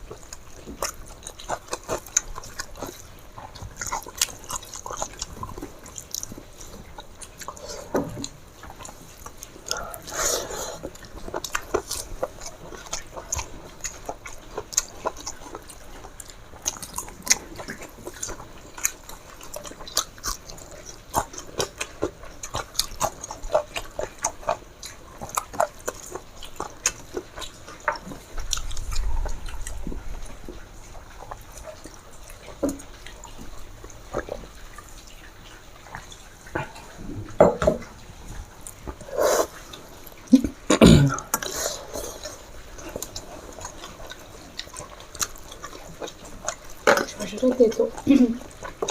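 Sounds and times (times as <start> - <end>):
chewing and mouth smacks: 0.0 - 48.9.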